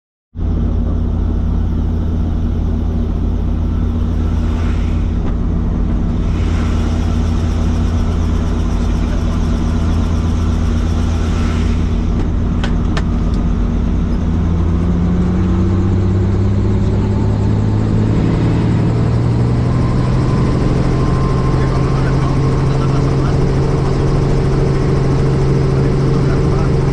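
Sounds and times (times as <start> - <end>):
helicopter engine and rotor: 0.4 - 26.9.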